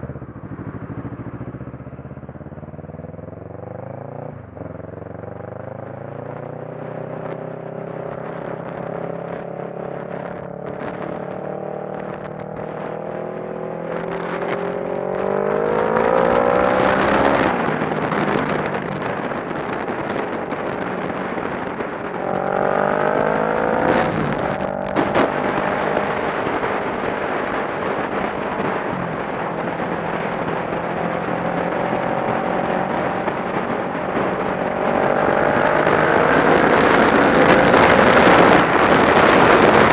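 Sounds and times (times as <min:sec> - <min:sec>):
motorcycle engine accelerating: 0:00.0 - 0:39.9
wind rush: 0:04.5 - 0:39.9.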